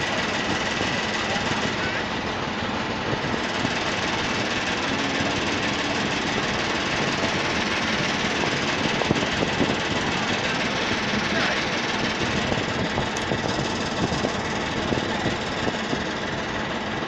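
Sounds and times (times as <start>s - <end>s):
ship engine rumble: 0.0s - 17.0s.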